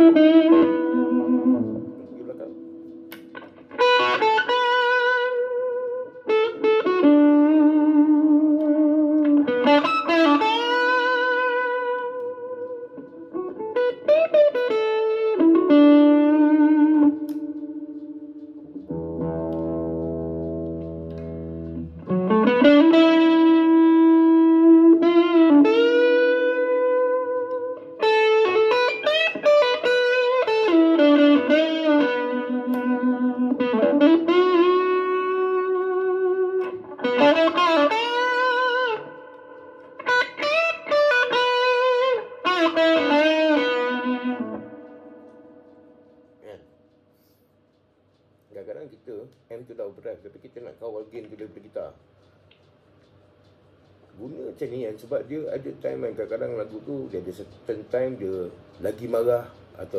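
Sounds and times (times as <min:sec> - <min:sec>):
electric guitar lead lines: 0:00.0 - 0:59.9
steady low amp buzz: 0:00.0 - 0:59.9.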